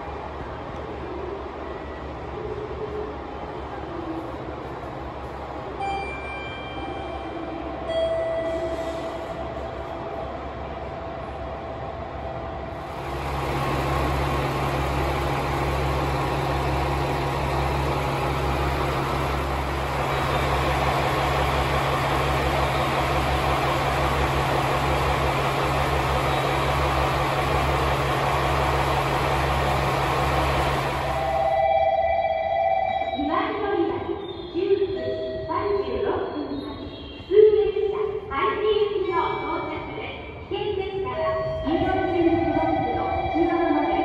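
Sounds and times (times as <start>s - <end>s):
train machinery humming and rumbling: 0.0s - 44.0s.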